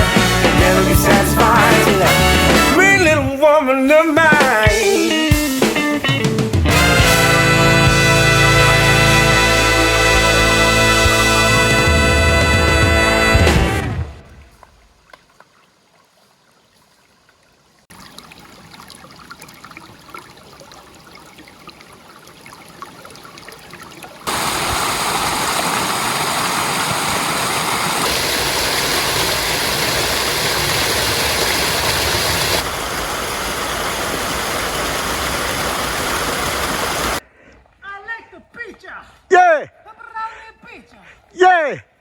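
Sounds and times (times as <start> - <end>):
rushing water: 0.0 - 5.6, 6.7 - 37.2.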